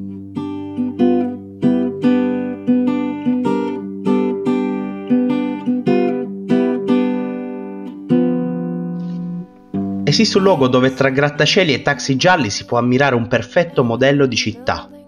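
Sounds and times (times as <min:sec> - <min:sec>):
acoustic guitar strumming: 0:00.0 - 0:13.3.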